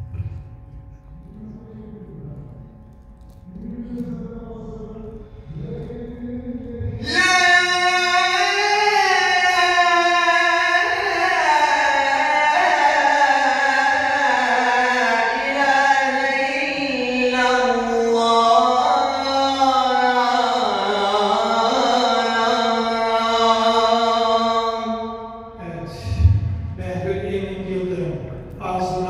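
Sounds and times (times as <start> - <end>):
man singing call to prayer: 3.4 - 29.0.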